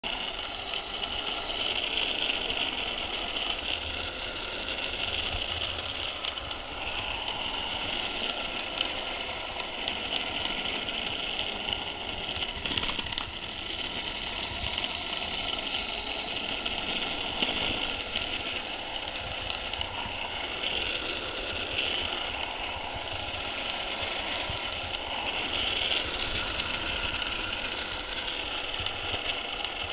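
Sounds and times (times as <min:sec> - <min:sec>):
electric motor whine: 0:00.0 - 0:29.9
wheels rolling on asphalt: 0:00.0 - 0:29.9.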